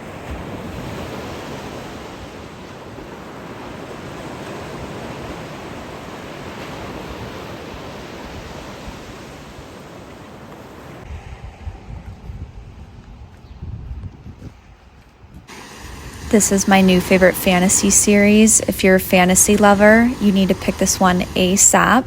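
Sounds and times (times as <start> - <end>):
ocean surf washing onto beach: 0.0 - 12.1, 15.5 - 22.0.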